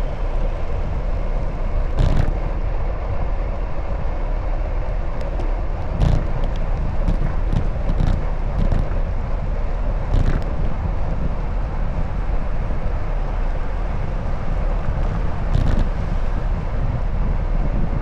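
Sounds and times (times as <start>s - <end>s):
road and traffic noise: 0.0s - 18.0s
wind rushing over microphone: 0.0s - 18.0s.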